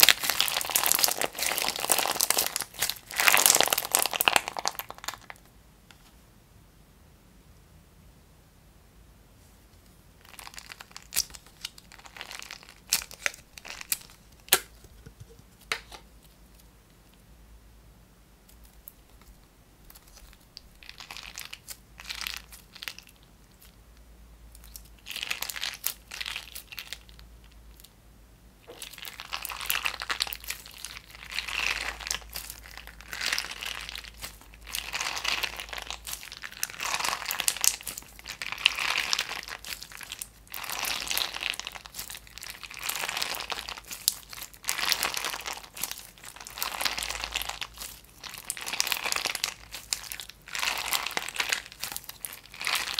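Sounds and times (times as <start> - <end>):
crunchy slime crackling and popping: 0.0 - 5.5, 10.2 - 14.9, 18.4 - 23.9, 24.5 - 27.9, 28.6 - 52.9.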